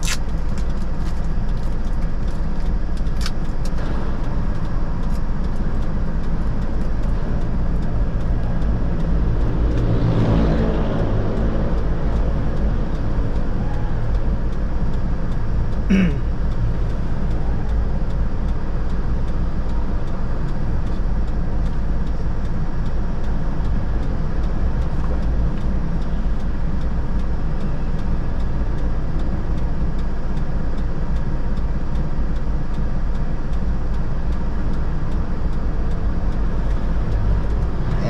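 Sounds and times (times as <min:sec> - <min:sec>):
faint regular ticking: 0:00.2 - 0:38.0.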